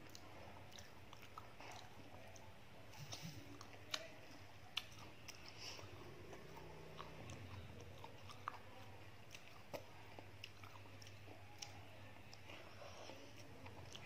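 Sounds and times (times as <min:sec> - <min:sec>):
low steady hum: 0:00.0 - 0:14.0
soft wet chewing: 0:00.0 - 0:14.0.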